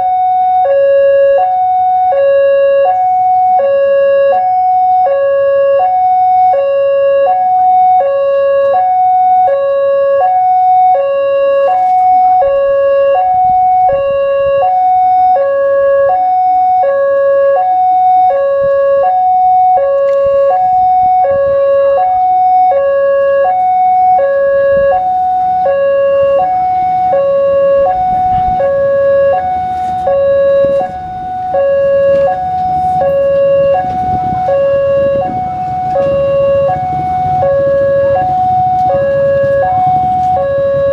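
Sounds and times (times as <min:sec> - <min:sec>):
electronic two-tone crossing alarm: 0:00.0 - 0:40.9.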